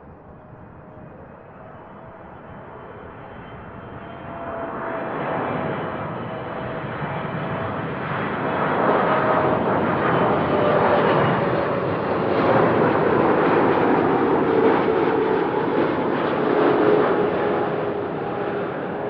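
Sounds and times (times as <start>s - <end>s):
jet engines rushing and whining: 0.0s - 19.0s.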